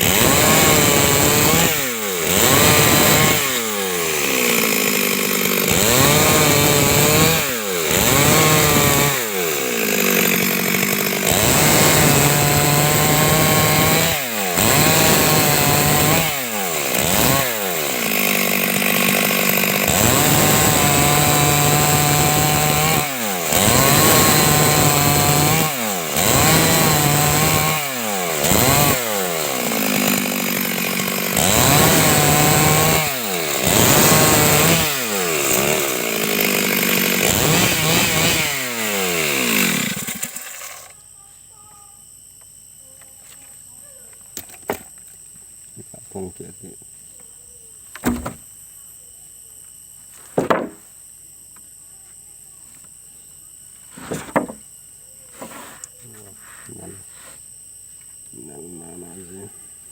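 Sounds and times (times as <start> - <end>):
chainsaw cutting wood: 0.0 - 41.0, 44.2 - 46.8, 47.9 - 48.5, 50.1 - 51.0, 53.9 - 54.7, 55.3 - 57.5, 58.2 - 59.5.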